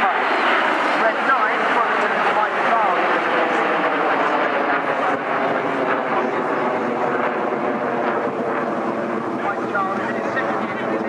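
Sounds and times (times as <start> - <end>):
jets flying over: 0.0 - 11.0.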